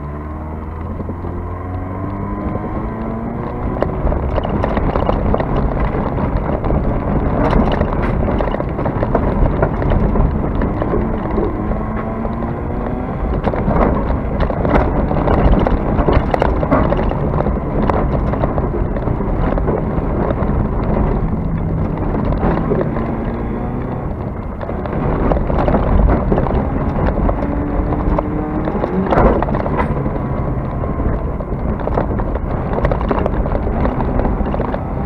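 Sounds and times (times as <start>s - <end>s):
engine revving: 0.0s - 8.2s, 9.7s - 17.4s, 18.0s - 35.0s
chassis knocking and rattling: 2.4s - 35.0s.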